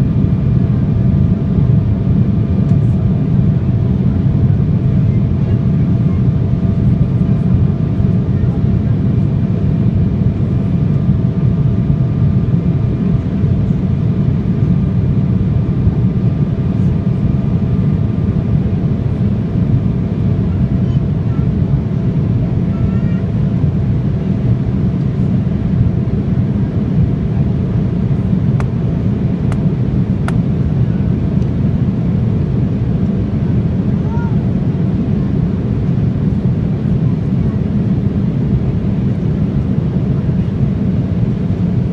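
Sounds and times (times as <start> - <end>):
jet engines roaring in cabin: 0.0 - 41.9.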